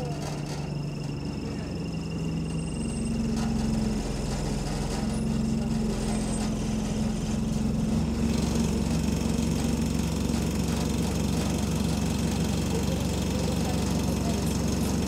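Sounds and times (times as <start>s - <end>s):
diesel bus engine idling: 0.0s - 15.0s
rattling vibration: 0.0s - 15.0s.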